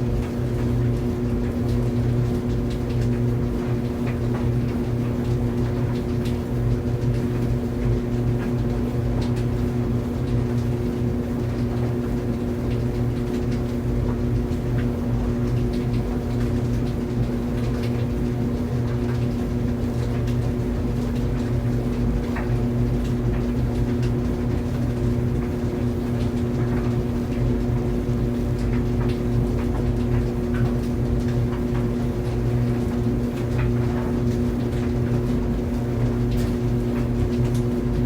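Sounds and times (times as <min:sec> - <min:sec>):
clothes dryer running: 0:00.0 - 0:38.0.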